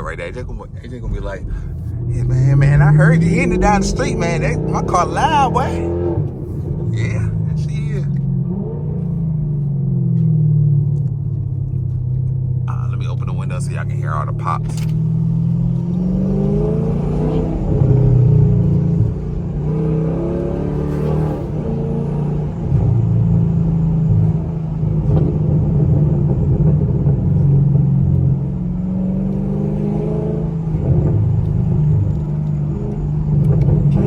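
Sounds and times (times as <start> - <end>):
car exhaust accelerating: 0.0 - 34.0.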